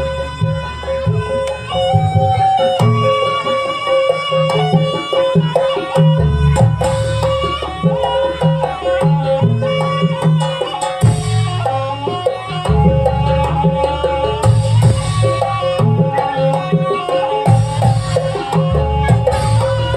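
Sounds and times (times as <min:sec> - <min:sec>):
hand drums and percussion: 0:00.0 - 0:19.9
sustained melody instrument: 0:00.0 - 0:19.9.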